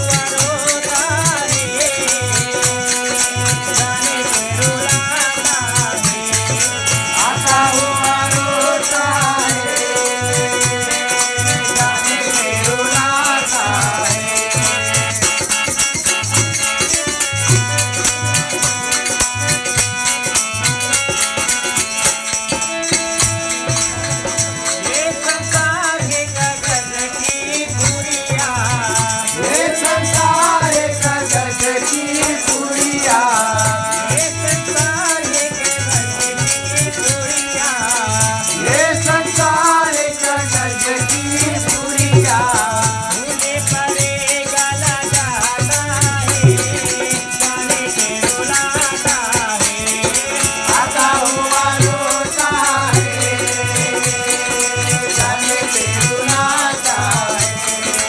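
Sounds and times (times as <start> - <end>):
drum steady beat: 0.0 - 58.0
harmonium chords: 0.0 - 58.0
jingling metal percussion: 0.0 - 58.0
person singing: 0.0 - 58.0.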